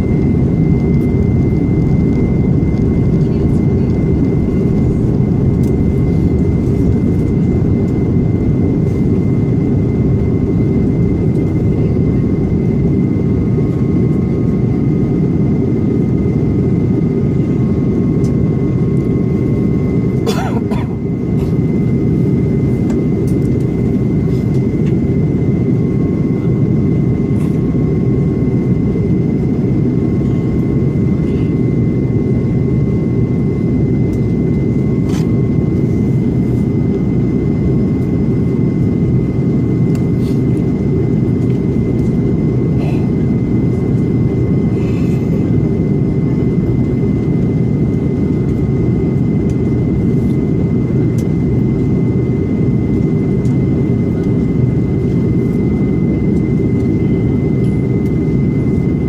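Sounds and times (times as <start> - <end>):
jet engine and airflow rumble: 0.0 - 59.0
thin steady whine: 0.0 - 59.0.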